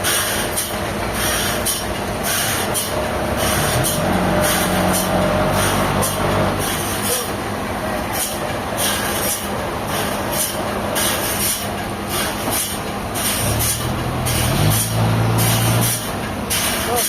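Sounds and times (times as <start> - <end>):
sharp machine hiss: 0.0 - 7.4, 8.1 - 17.0
sawmill machinery rattling and grinding: 0.0 - 17.0.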